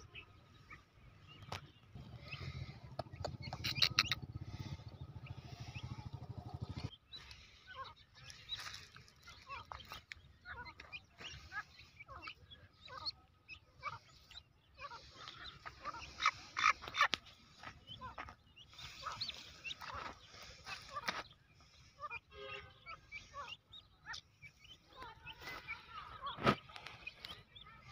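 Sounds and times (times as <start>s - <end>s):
chicks chirping: 0.0s - 27.9s.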